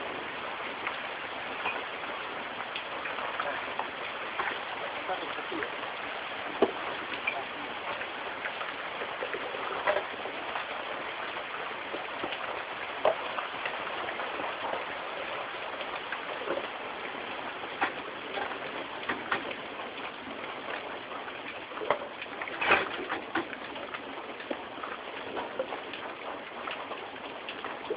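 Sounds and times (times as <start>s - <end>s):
raindrops ticking: 0.0s - 27.9s
steady rain hiss: 0.0s - 27.9s.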